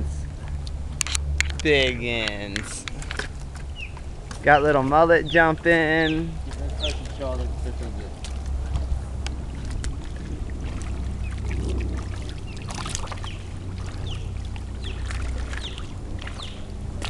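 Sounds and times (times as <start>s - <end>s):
fish splashing in water: 0.0s - 17.0s
steady low rumble: 0.0s - 17.0s.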